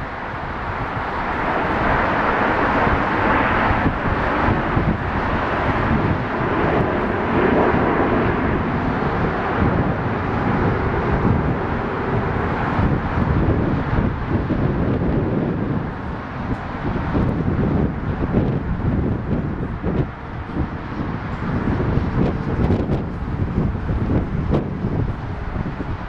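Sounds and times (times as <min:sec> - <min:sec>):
jets flying past: 0:00.0 - 0:26.0
wind on microphone: 0:00.0 - 0:26.0.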